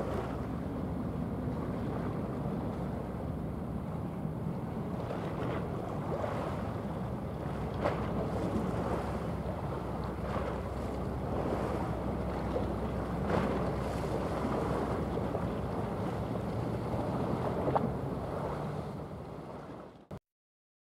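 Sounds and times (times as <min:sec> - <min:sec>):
wind buffeting microphone: 0:00.0 - 0:20.0
sea waves washing: 0:00.0 - 0:20.1
steady low rumble: 0:00.0 - 0:20.2.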